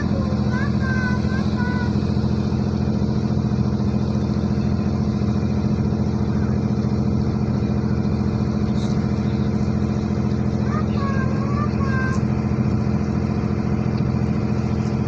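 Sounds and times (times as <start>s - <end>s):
ship engine droning: 0.0s - 15.0s.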